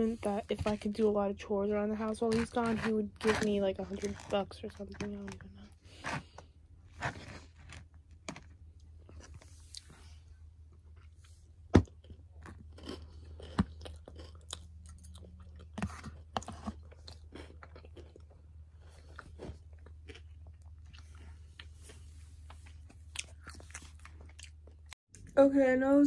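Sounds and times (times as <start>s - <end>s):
chewing and crunching salad: 2.0s - 25.3s.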